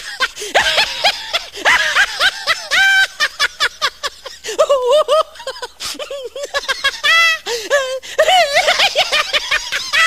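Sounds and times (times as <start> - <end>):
person giggling: 0.0 - 10.0.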